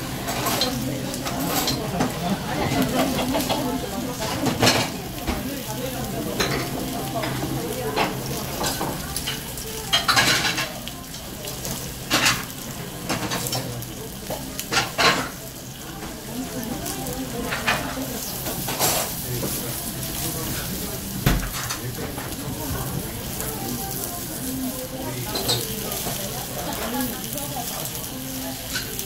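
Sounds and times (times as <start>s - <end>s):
food sizzling on a grill: 0.0s - 29.0s.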